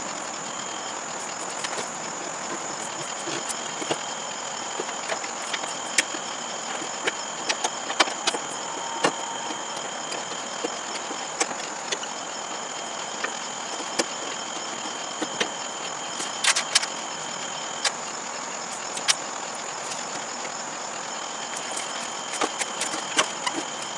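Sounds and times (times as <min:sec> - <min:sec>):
high insect trill: 0:00.0 - 0:23.9.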